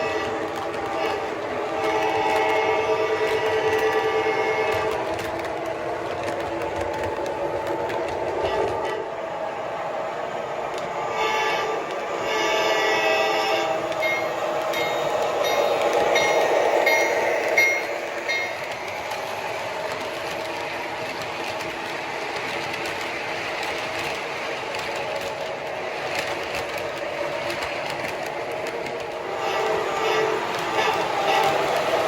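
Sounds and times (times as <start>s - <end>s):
train running: 0.0s - 32.0s.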